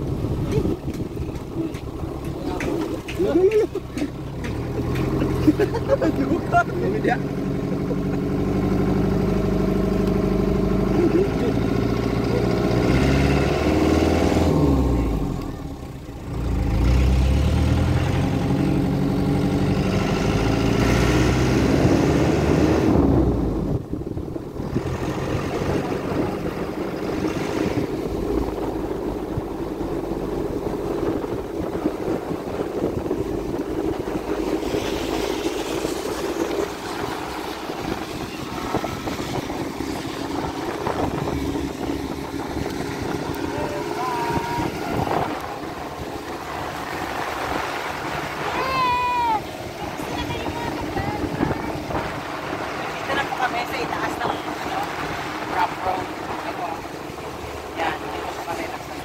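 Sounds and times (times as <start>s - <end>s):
road noise: 0.0s - 59.0s
vehicle engine while driving: 0.0s - 59.0s.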